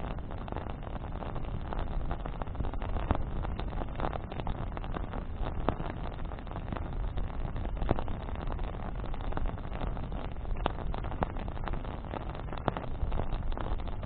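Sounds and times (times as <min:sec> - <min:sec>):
bonfire crackling and popping: 0:00.0 - 0:14.0
fire low rumble: 0:00.0 - 0:14.0.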